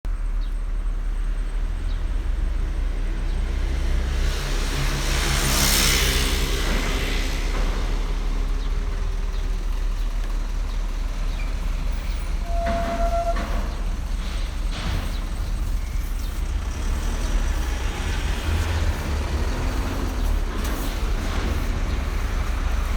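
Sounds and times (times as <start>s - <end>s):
steady low traffic rumble: 0.0s - 22.9s
vehicle passing: 1.0s - 12.3s, 14.2s - 22.9s.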